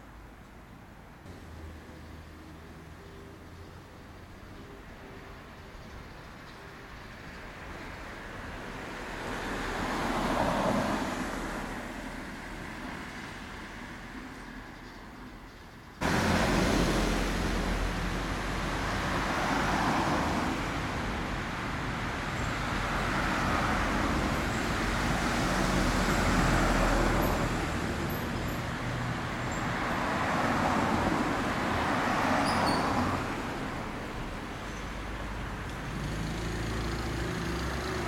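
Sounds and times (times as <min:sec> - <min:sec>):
distant road traffic: 0:00.0 - 0:38.0.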